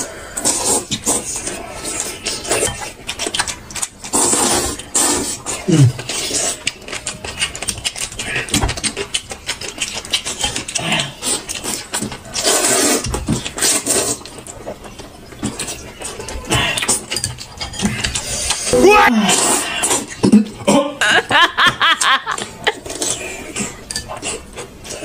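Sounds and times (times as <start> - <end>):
chewing and crunching food: 0.0 - 25.0.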